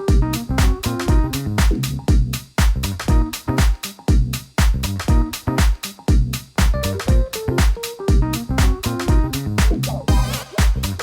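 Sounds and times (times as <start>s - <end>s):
electronic dance music: 0.0s - 1.8s, 2.6s - 4.0s, 4.6s - 6.0s, 6.6s - 11.0s
bass line: 0.0s - 11.0s
kick drum: 0.0s - 11.0s.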